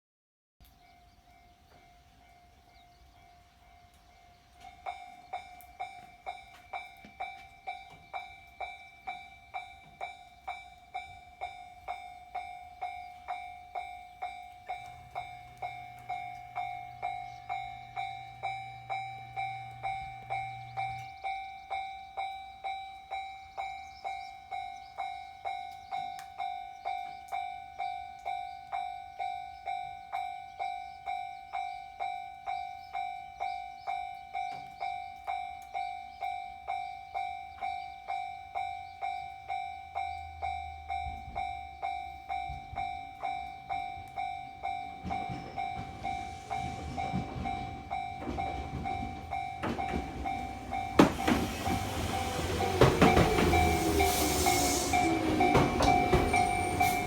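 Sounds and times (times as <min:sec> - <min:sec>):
level-crossing bell ringing: 0:00.8 - 0:57.0
train rumble: 0:00.8 - 0:57.0.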